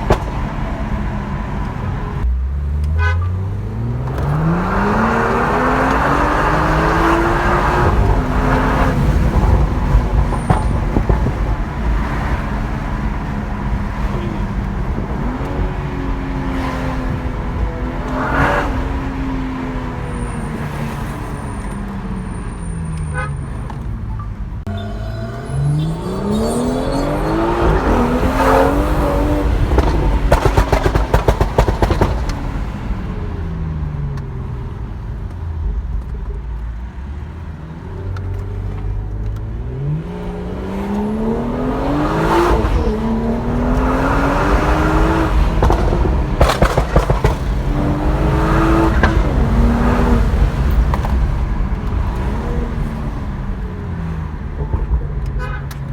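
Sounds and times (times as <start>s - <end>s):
exhaust crackles and pops: 0.0s - 3.2s, 4.0s - 19.1s, 27.6s - 41.2s, 42.5s - 55.9s
car engine revving: 0.0s - 55.9s.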